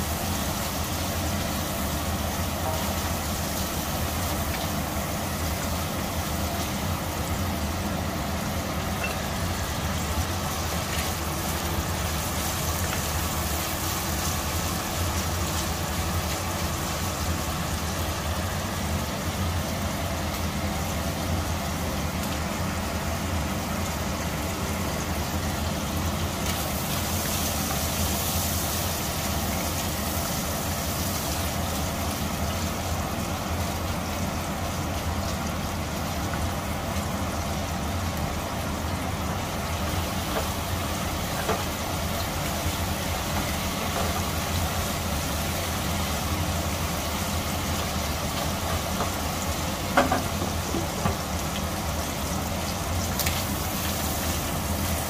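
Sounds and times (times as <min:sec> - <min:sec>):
prawns sizzling in oil: 0:00.0 - 0:55.0.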